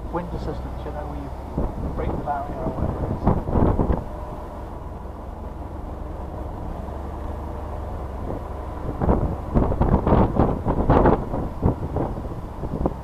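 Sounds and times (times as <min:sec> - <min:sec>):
car engine from inside: 0:00.0 - 0:13.0
road noise: 0:00.0 - 0:13.0.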